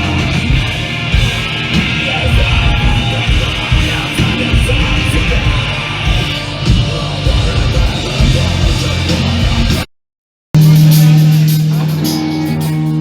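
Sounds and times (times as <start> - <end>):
punk band playing live: 0.0 - 9.9, 10.6 - 13.0.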